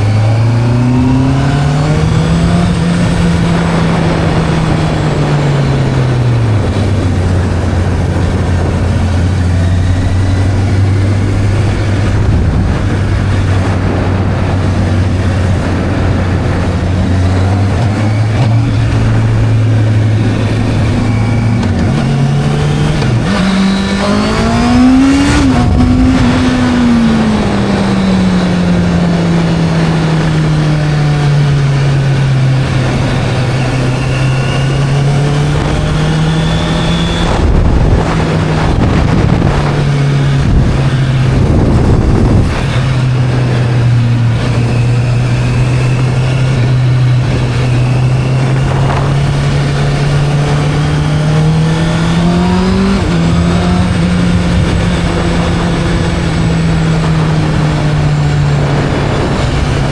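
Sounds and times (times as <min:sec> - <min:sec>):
motorcycle engine revving: 0:00.0 - 0:59.9
wind noise rushing: 0:00.0 - 0:59.9.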